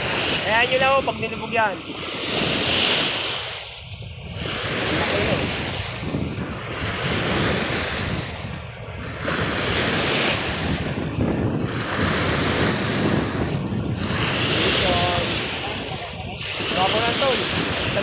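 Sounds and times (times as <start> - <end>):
lake waves breaking on rocks: 0.0 - 18.0
wind buffeting microphone: 0.0 - 18.0.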